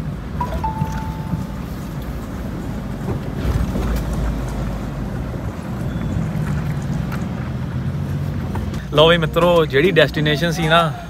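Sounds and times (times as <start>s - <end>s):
off-road vehicle engine rumbling: 2.0s - 11.0s.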